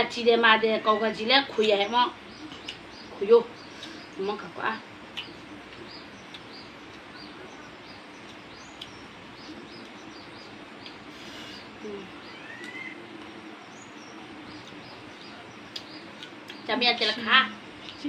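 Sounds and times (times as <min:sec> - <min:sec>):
small birds chirping: 0:00.1 - 0:18.0
background hiss: 0:02.2 - 0:18.0.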